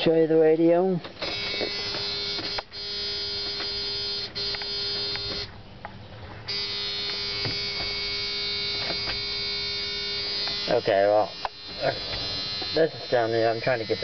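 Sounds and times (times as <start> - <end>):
electrical buzz: 1.2 - 5.8, 6.4 - 14.0.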